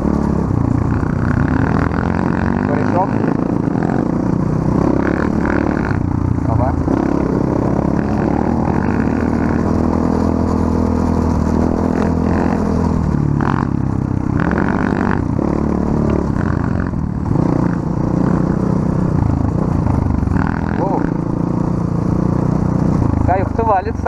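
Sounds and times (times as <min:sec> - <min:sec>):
clatter over rough ground: 0:00.0 - 0:24.0
off-road vehicle engine revving: 0:00.0 - 0:24.0.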